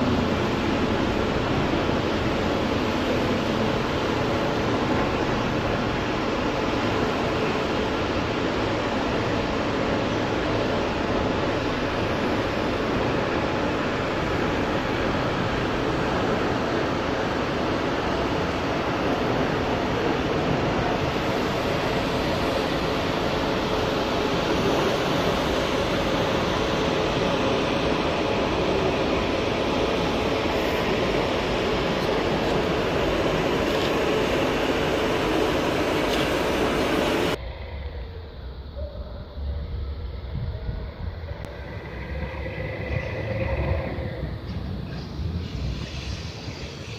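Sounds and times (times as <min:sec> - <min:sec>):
train rolling: 0:00.0 - 0:38.6, 0:39.3 - 0:46.9
faint steady hum: 0:00.0 - 0:46.9.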